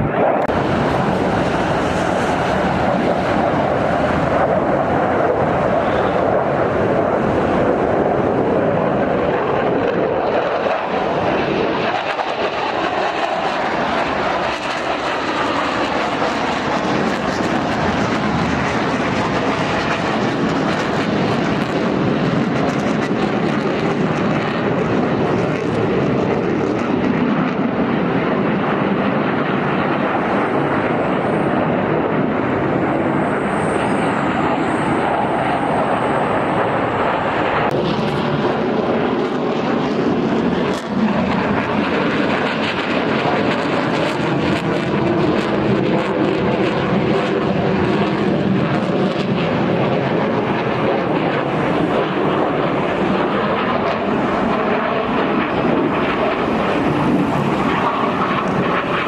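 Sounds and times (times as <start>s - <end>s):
military aircraft engine rushing: 0.0s - 59.0s.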